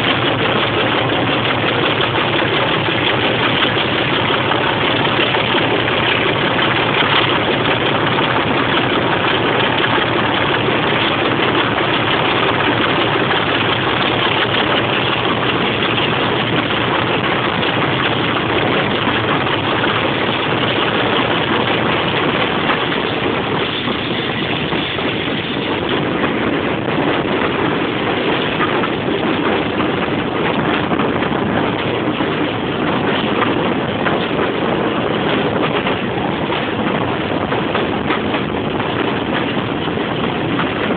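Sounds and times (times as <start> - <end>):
diesel locomotive engine: 0.0 - 40.9
train running: 0.0 - 40.9
wind on microphone: 0.0 - 40.9.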